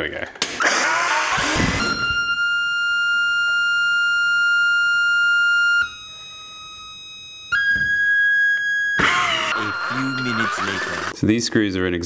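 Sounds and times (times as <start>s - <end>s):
held electronic tone: 0.6s - 11.2s.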